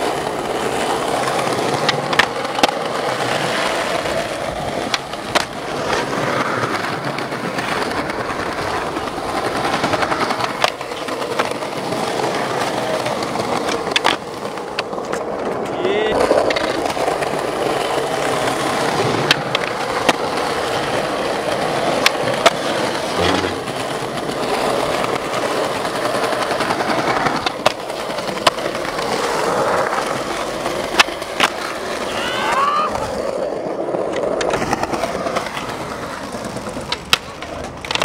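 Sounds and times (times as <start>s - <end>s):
skateboard clacking on ground: 0.0s - 38.0s
skateboard wheels rolling on paving: 0.0s - 38.0s.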